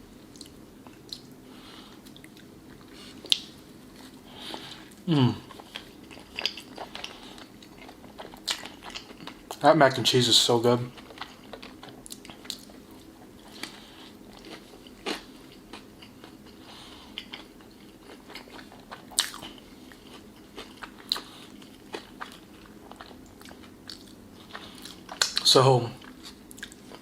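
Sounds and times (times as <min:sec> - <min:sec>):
person chewing food: 0:00.3 - 0:09.6, 0:10.9 - 0:25.4, 0:26.0 - 0:27.0.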